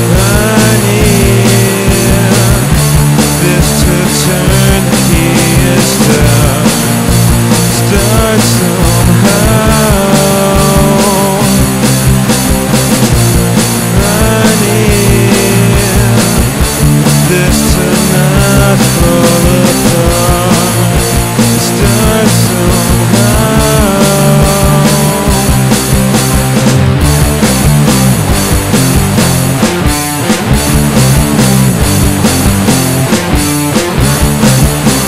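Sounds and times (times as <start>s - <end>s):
drums steady beat: 0.0s - 35.0s
rock band playing instrumental: 0.0s - 35.0s.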